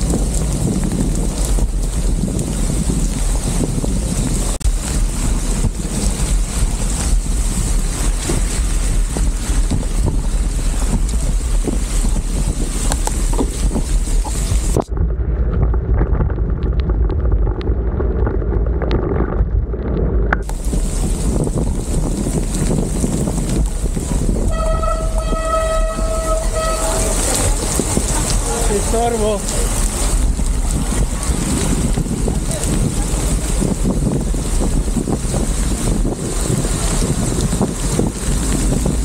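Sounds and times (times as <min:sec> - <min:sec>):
rain and tyre spray hiss: 0:00.0 - 0:14.9, 0:20.4 - 0:39.0
wind buffeting microphone: 0:00.0 - 0:39.0.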